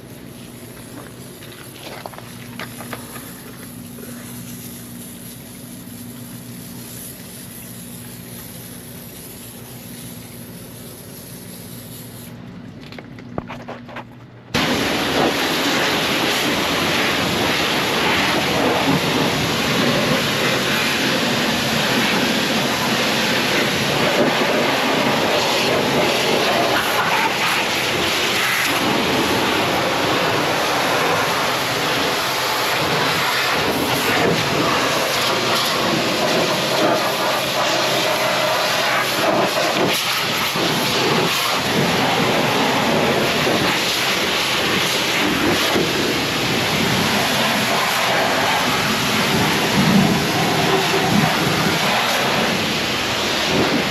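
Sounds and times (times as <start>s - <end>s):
high-pressure water spray hissing: 0.0s - 12.4s, 14.6s - 53.9s
pressure washer engine running: 0.0s - 12.6s, 14.5s - 53.9s.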